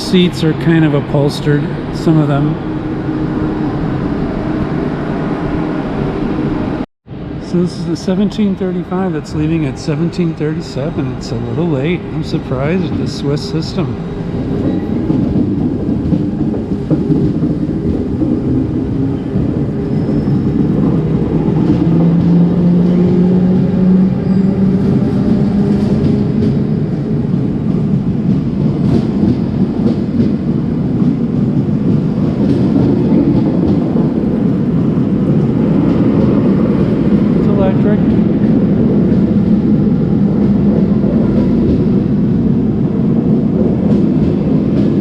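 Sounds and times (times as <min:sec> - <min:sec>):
passenger train rumbling: 0:00.0 - 0:45.0.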